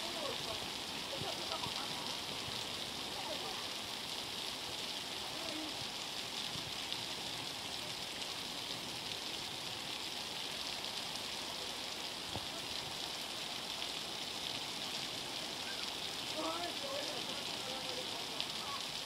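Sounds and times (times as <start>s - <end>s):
floodwater rushing: 0.0s - 19.0s
heavy rain falling: 0.0s - 19.0s.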